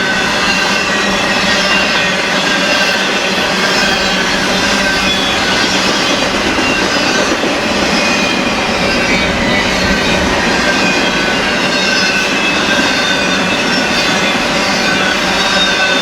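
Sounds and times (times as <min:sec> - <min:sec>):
freight train wheels rumbling: 0:00.0 - 0:16.0
train wheels squealing: 0:00.0 - 0:16.0.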